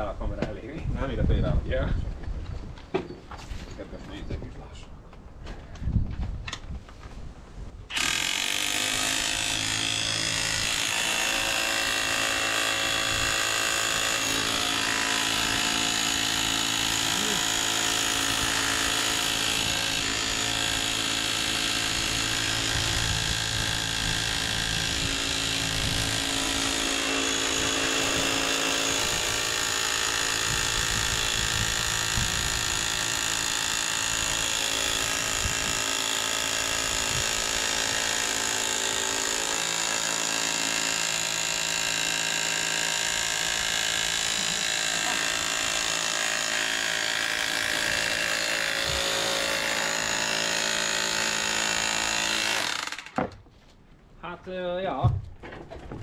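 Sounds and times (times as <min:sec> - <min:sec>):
hammer drill hammering metal rod: 0:07.9 - 0:53.2.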